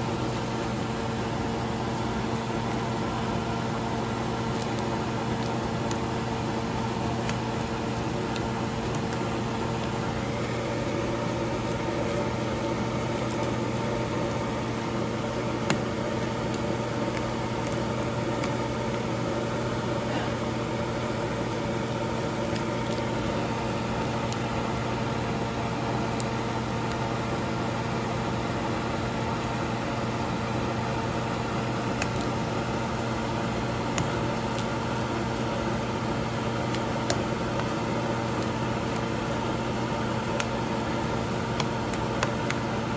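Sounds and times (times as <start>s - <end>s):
kitchen fan whirring: 0.0s - 42.9s.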